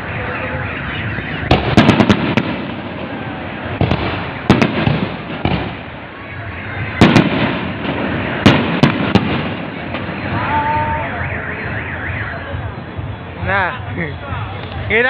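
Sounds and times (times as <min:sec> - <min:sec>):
fireworks bangs: 0:00.0 - 0:12.3
continuous background din: 0:00.0 - 0:15.0.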